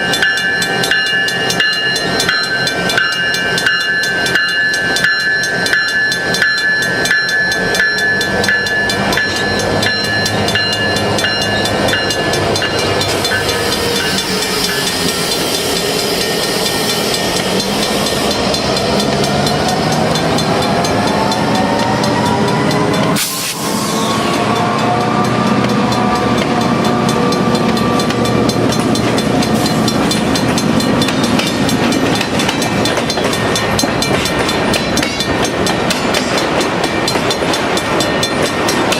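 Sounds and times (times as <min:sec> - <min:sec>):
freight train rumbling: 0:00.0 - 0:38.9
train bell ringing: 0:00.0 - 0:38.9.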